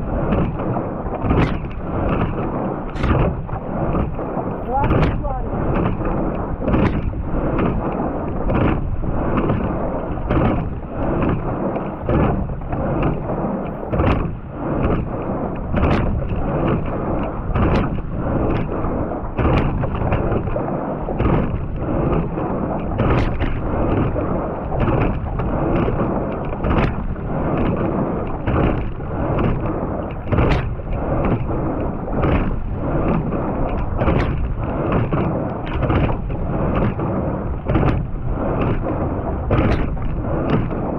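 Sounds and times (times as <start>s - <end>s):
water and wind rushing: 0.0s - 40.9s.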